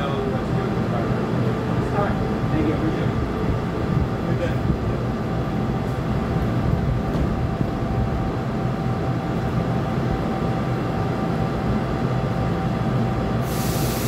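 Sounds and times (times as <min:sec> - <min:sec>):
train idling rumble and hum: 0:00.0 - 0:14.0.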